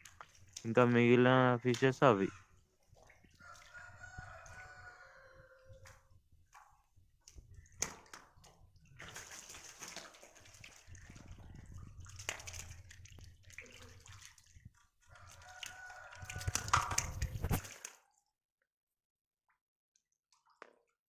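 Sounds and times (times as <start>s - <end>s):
fish splashing and flopping in water: 0.0s - 18.3s.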